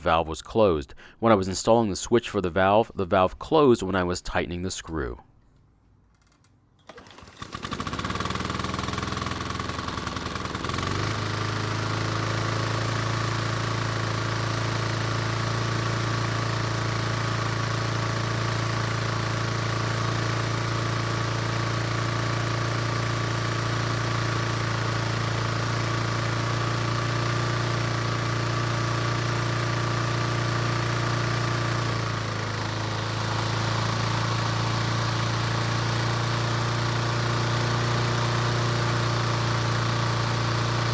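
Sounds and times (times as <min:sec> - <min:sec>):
mower engine running: 0:06.9 - 0:40.9.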